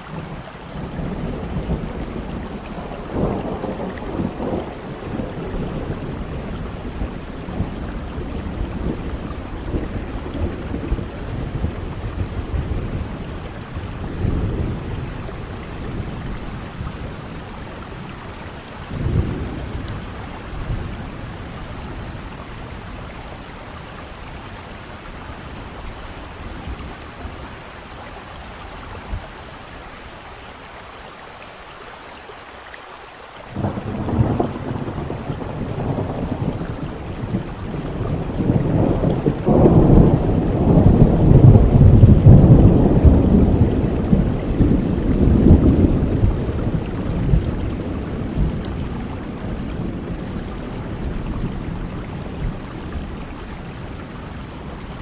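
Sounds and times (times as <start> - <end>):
rolling thunder: 0.0 - 27.8, 33.5 - 55.0
heavy rain: 0.0 - 55.0.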